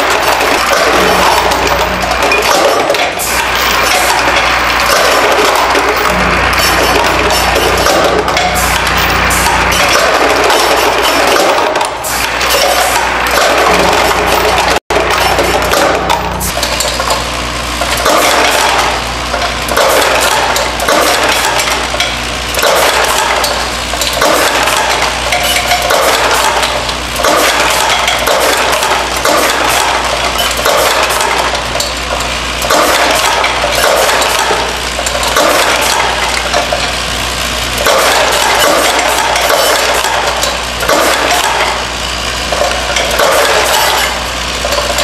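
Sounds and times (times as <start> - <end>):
machine low hum: 0.0 - 45.0.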